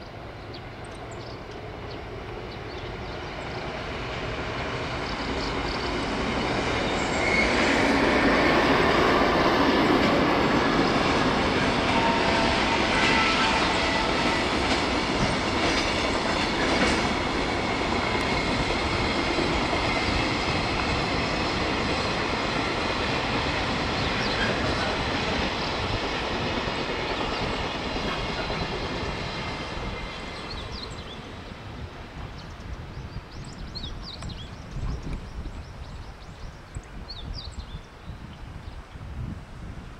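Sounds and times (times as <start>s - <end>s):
freight train passing: 0.0s - 39.9s
steel wheels rumbling on rails: 0.6s - 38.2s.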